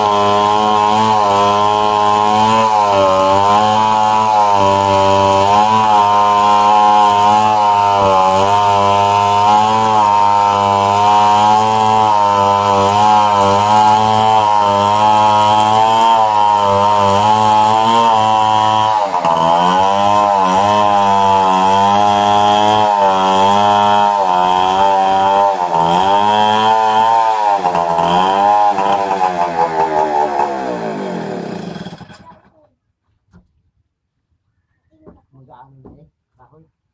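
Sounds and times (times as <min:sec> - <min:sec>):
chainsaw cutting a tree: 0:00.0 - 0:32.5.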